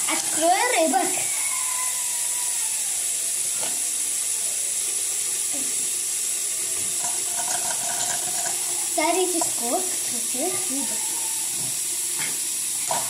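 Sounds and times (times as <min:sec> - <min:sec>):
tap water running into basin: 0:00.0 - 0:13.0.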